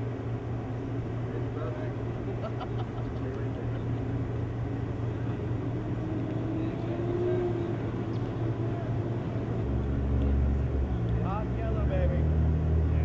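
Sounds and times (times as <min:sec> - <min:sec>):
distant voices: 0:00.0 - 0:13.0
low outdoor rumble: 0:00.0 - 0:13.0.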